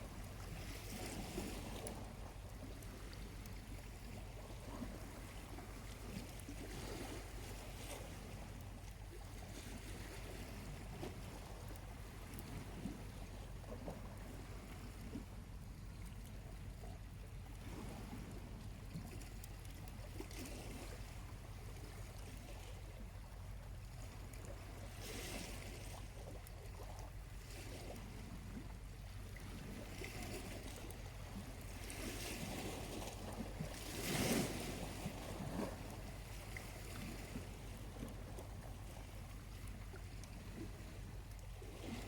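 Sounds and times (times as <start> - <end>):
small waves lapping on shore: 0.0 - 42.0.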